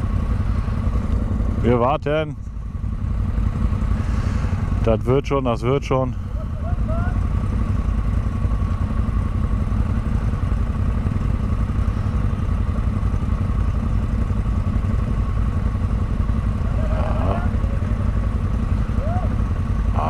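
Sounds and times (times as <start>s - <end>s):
engine whine: 0.0s - 20.0s
vehicle engine running: 0.0s - 20.0s.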